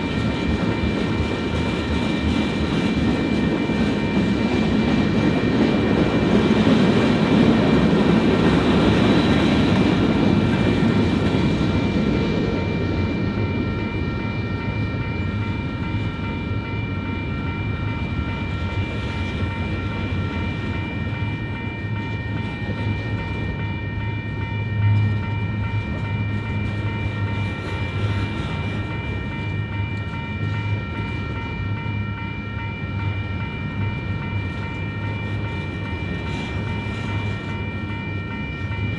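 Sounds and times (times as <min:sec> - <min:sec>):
crossing warning bell ringing: 0:00.0 - 0:38.9
freight train rolling: 0:00.0 - 0:38.9.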